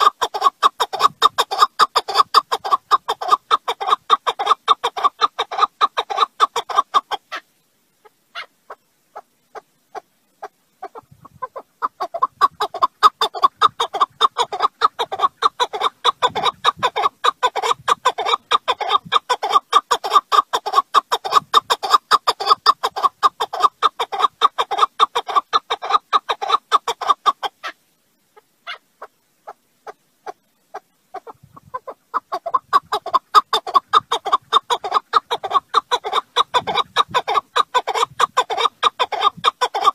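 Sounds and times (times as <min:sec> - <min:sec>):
partridge clucking call: 0:00.0 - 0:07.4, 0:08.0 - 0:27.8, 0:28.4 - 0:39.9.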